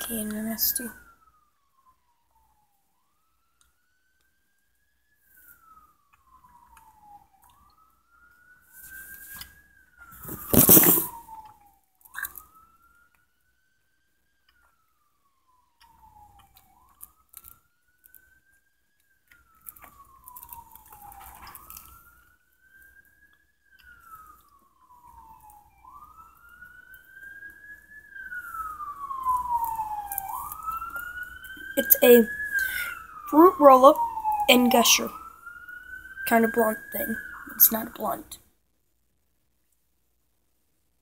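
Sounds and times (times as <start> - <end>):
siren wailing: 0.0 - 38.5.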